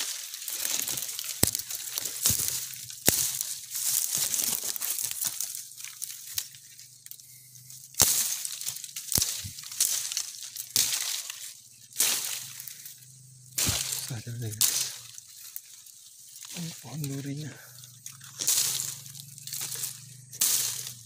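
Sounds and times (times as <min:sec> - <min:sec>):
dry twigs crackling underfoot: 0:00.0 - 0:21.0.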